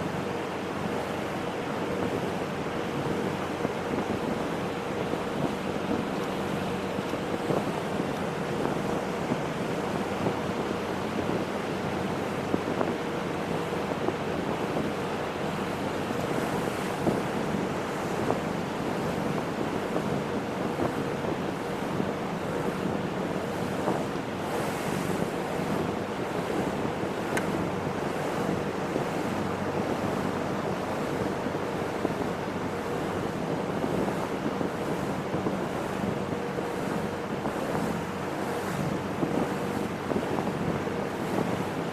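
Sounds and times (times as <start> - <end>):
low engine hum: 0.0 - 41.9
water rushing past boat: 0.0 - 41.9
wind buffeting microphone: 0.0 - 41.9.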